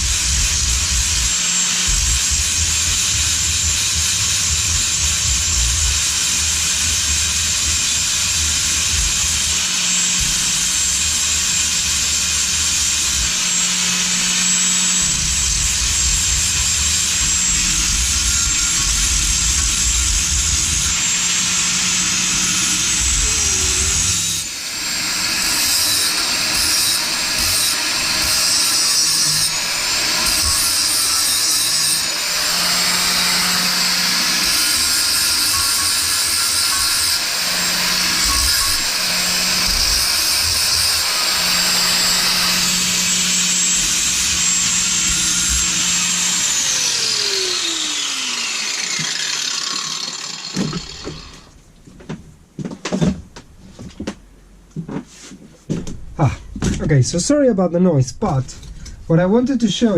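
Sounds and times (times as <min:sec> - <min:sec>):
angle grinder grinding metal: 0:00.0 - 0:51.6.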